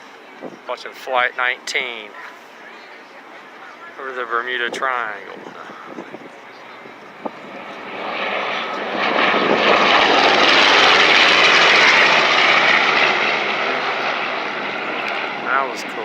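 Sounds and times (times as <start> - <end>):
propeller plane flying over: 1.6 - 16.0.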